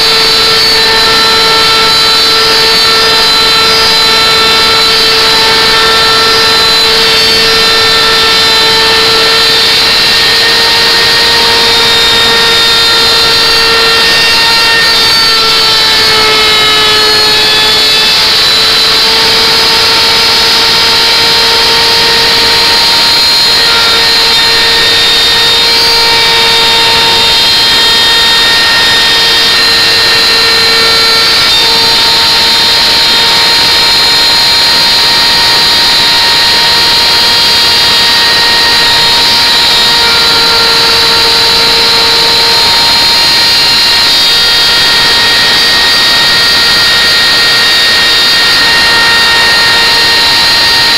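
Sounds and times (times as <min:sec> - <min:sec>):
wood router cutting wood: 0:00.0 - 0:50.9.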